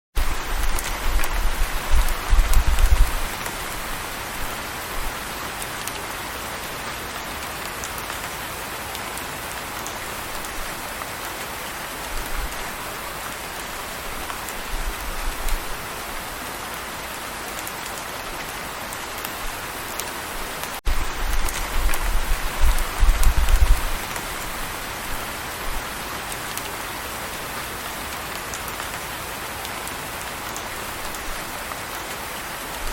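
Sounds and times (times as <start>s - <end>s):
steady rain falling: 0.2s - 32.9s.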